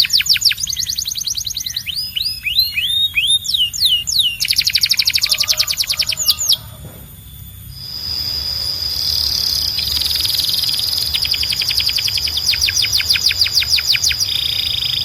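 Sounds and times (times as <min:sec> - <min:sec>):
canary singing: 0:00.0 - 0:15.0.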